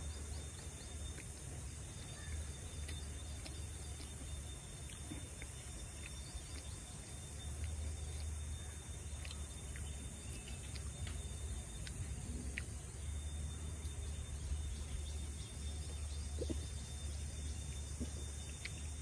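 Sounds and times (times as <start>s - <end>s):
high insect tone: 0.0s - 19.0s.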